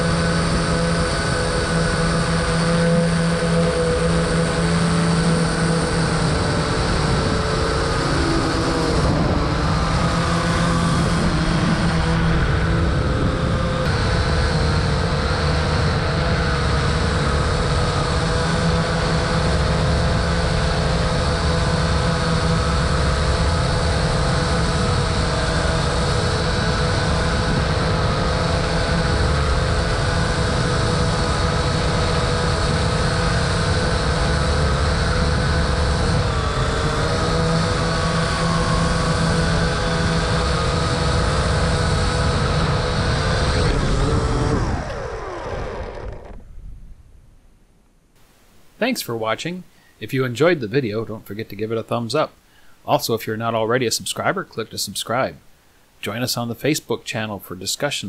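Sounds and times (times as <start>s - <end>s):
drone propellers whirring: 0.0s - 47.2s.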